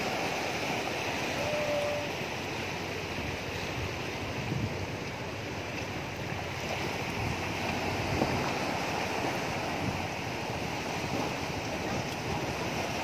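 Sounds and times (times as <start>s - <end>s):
waves breaking on rocky shore: 0.0s - 13.0s
wind on microphone: 0.0s - 13.0s.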